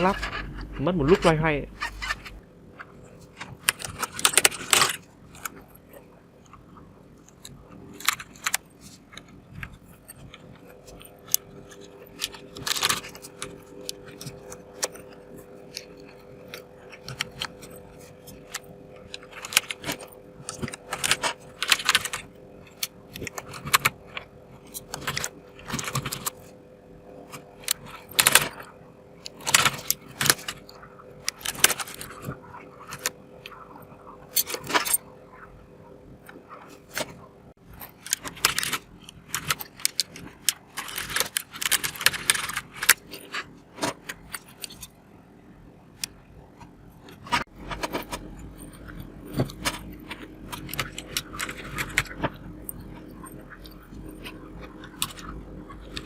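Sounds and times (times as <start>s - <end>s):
keycaps clicking and clattering: 0.0s - 6.6s, 7.2s - 35.4s, 36.2s - 45.0s, 47.0s - 56.0s
faint steady hum: 0.0s - 56.0s.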